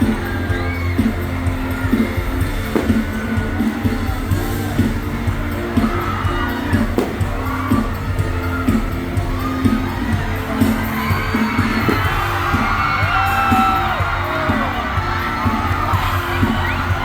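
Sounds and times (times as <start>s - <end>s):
crowd cheering: 0.0s - 17.0s
live pop music over loudspeakers: 0.0s - 17.0s.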